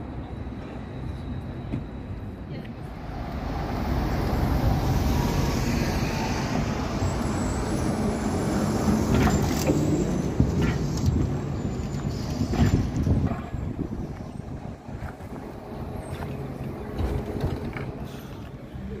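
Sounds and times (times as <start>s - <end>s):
street traffic noise: 0.0s - 19.0s
trolleybuses passing: 0.0s - 19.0s.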